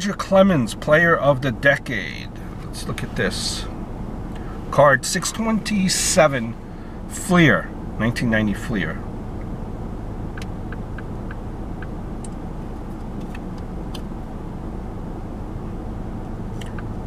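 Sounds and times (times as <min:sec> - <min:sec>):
car engine idling hum: 0:00.0 - 0:17.0.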